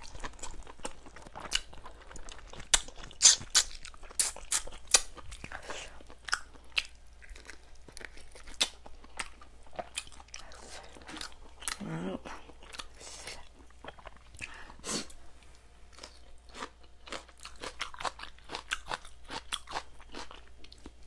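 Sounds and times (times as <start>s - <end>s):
chewing and crunching chicken: 0.0s - 14.6s, 15.9s - 21.0s.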